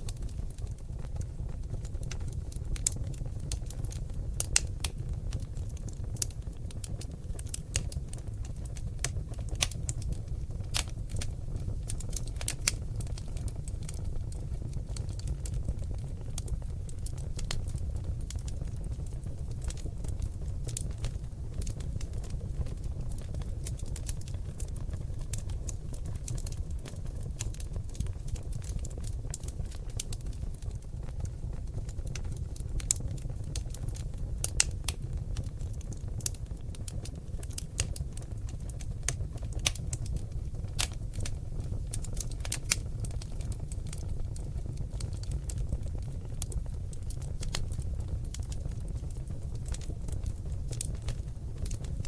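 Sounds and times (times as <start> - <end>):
log fire crackling and popping: 0.0 - 52.0
low fire rumble: 0.0 - 52.0.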